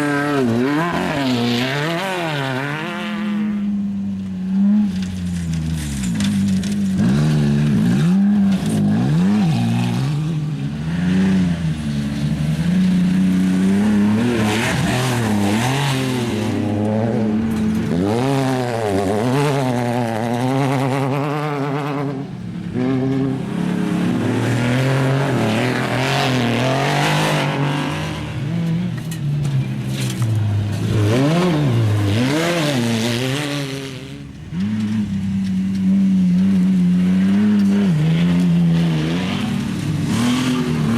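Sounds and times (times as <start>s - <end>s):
off-road engines revving: 0.0s - 40.9s.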